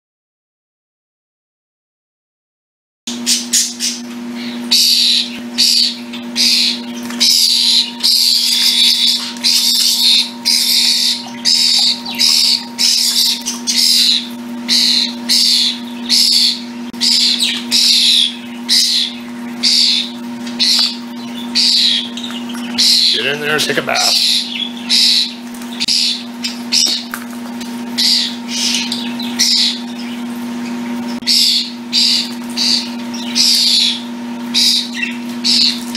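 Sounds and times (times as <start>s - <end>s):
steady low hum: 3.1s - 35.9s
young starlings rasping calls: 3.2s - 35.9s.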